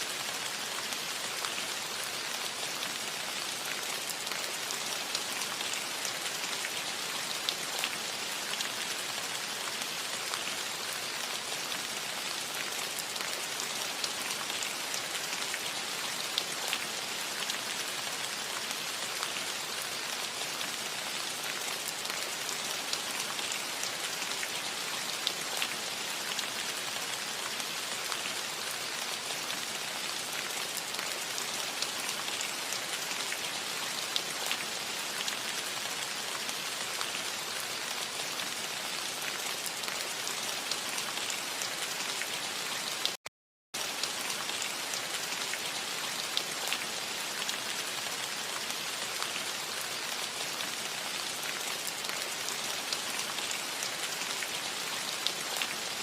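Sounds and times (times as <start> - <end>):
rain on a metal roof: 0.0 - 43.2, 43.8 - 56.0.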